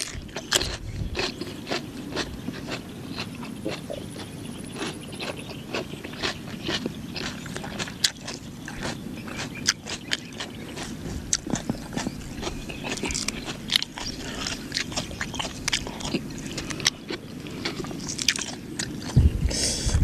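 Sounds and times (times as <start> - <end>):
crunchy chewing: 0.0 - 19.2.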